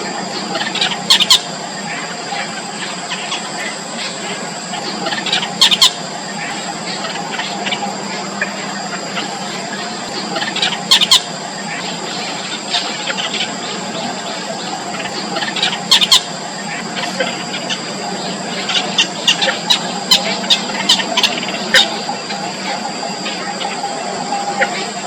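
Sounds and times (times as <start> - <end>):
faint peeps: 0.0 - 25.0
steady high background tone: 0.0 - 25.0
nestlings begging squeaky calls: 0.4 - 24.0.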